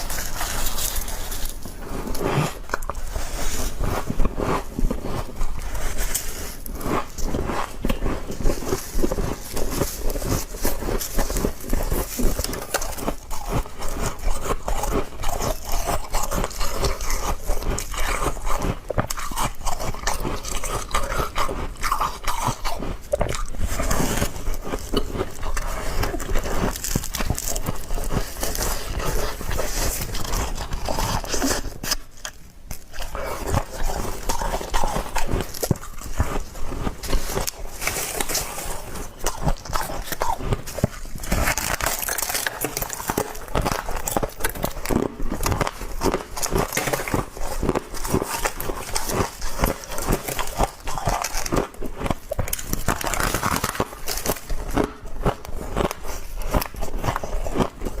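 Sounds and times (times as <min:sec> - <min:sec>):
crunching frost chewing: 0:00.0 - 0:58.0.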